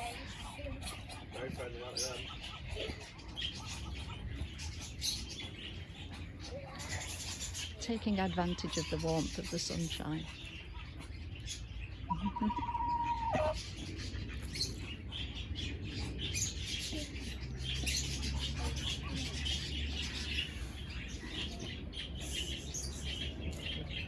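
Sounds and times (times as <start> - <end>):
budgerigars chattering: 0.0 - 24.0.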